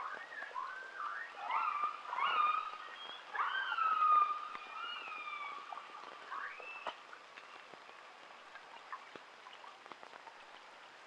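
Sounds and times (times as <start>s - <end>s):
faint crackling background noise: 0.0s - 11.0s.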